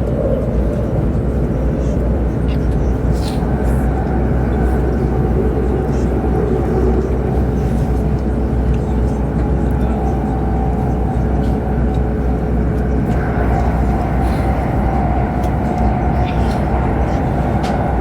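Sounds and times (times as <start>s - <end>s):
train cabin rumble: 0.0s - 18.0s.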